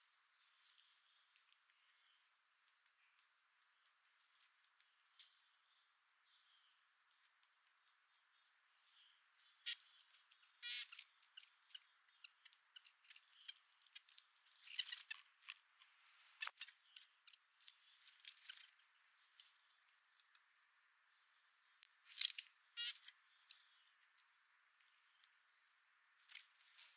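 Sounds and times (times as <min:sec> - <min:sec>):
birds pecking seed: 0:00.0 - 0:26.9.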